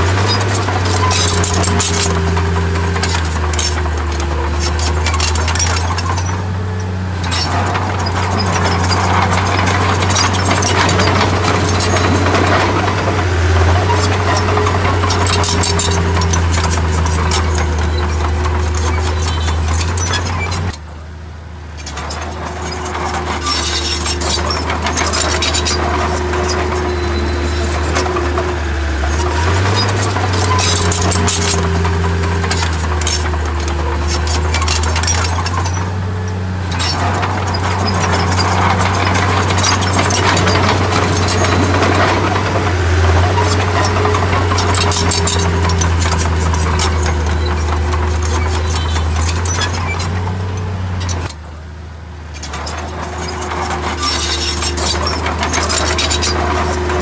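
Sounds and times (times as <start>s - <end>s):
metal clinking and rattling: 0.0s - 20.8s, 21.8s - 51.3s, 52.4s - 57.0s
bulldozer diesel engine running: 0.0s - 57.0s.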